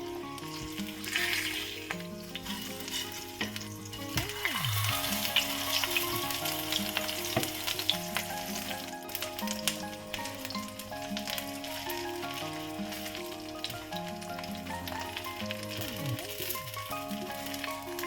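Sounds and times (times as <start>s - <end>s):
food sizzling in a pan: 0.0s - 18.0s
sharp crackles: 0.3s - 18.0s.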